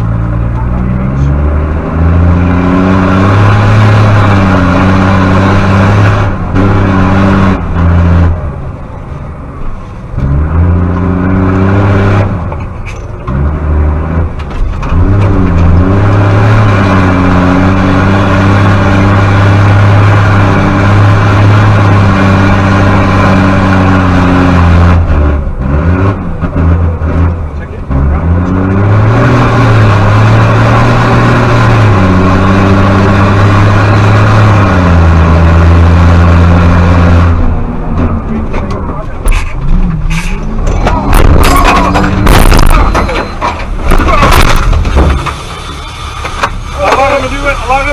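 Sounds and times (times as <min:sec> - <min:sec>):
diesel truck engine running hard: 0:00.0 - 0:47.9.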